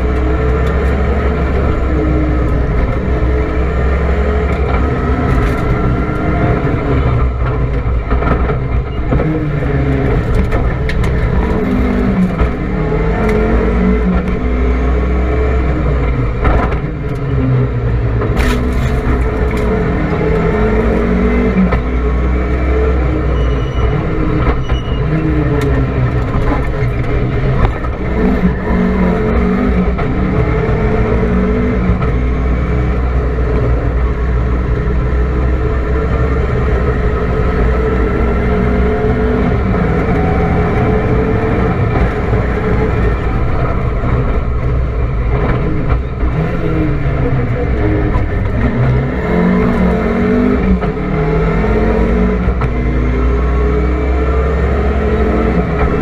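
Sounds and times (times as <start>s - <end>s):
rally car engine revving: 0.0s - 56.0s
road and tyre noise: 0.0s - 56.0s.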